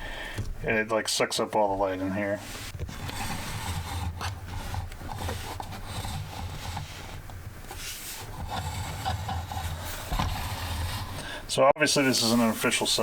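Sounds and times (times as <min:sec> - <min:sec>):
plastic toy handling rubbing: 0:01.6 - 0:11.3, 0:12.1 - 0:13.0.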